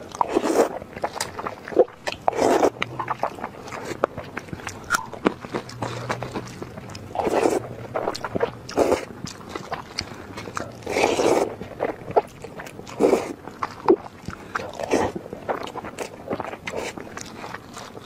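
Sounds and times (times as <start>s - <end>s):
noodles being slurped: 0.0s - 18.0s
wet chewing: 0.0s - 18.0s
lip smacks: 0.2s - 18.0s.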